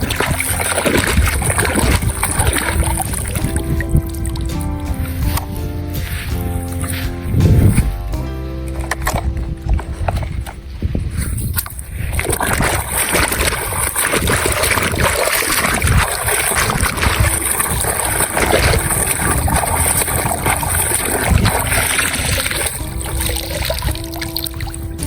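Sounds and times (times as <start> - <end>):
quiet background music: 0.0 - 25.0
water splashing and sloshing: 0.0 - 25.0.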